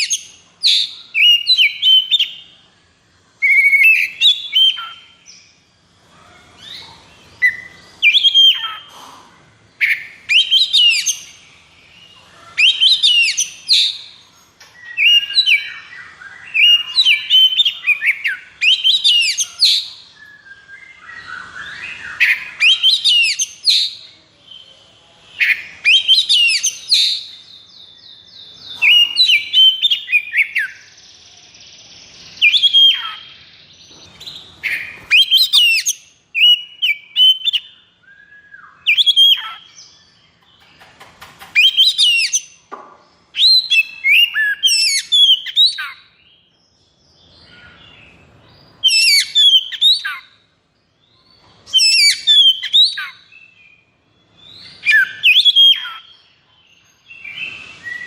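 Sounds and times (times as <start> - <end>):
bird singing whistles and chatter: 0.0 - 2.5, 3.4 - 5.6, 6.6 - 9.0, 9.8 - 42.7, 43.3 - 46.2, 48.6 - 50.4, 51.1 - 58.0.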